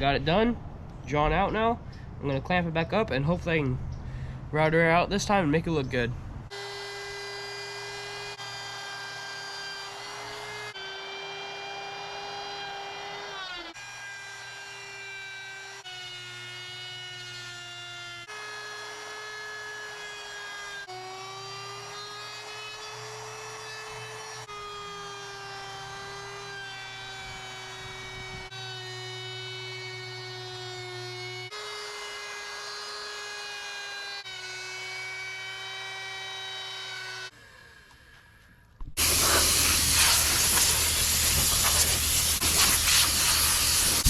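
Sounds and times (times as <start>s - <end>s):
electric wood router whining: 6.5s - 44.0s.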